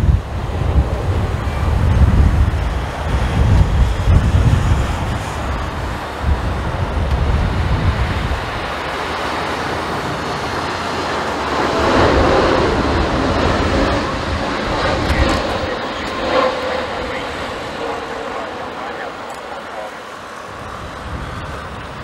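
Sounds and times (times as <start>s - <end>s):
jet plane passing overhead: 0.0s - 22.0s
wind buffeting microphone: 0.0s - 22.0s.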